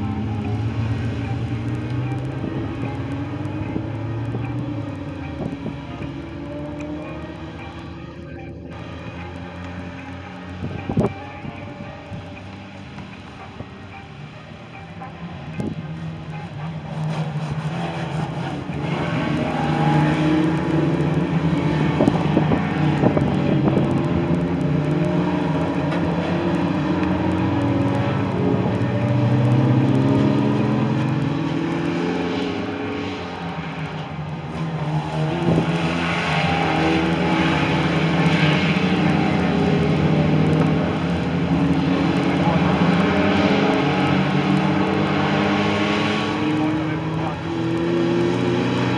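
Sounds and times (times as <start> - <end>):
racing car engines revving: 0.0 - 48.9.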